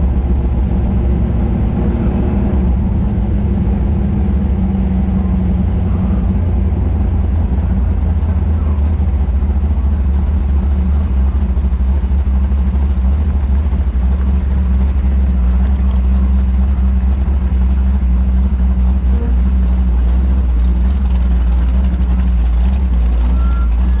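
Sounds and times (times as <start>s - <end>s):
race car engine idling: 0.0s - 24.0s.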